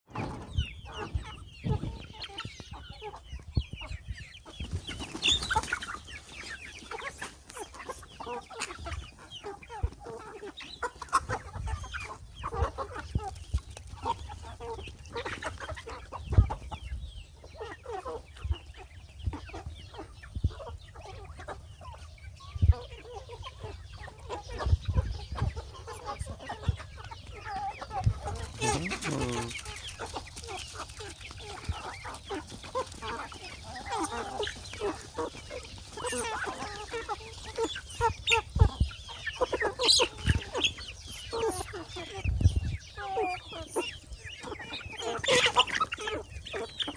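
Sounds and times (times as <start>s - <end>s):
chickens clucking: 0.1s - 46.9s.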